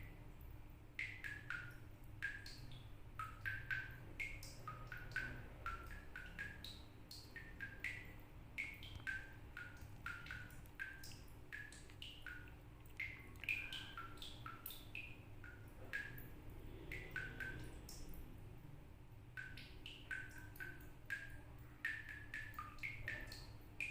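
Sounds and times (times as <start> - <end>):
water dripping from a tap: 0.0 - 23.9.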